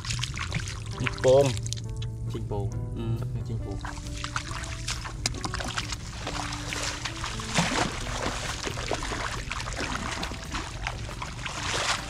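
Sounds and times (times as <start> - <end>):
splashing in muddy water: 0.0 - 2.1, 3.8 - 12.0.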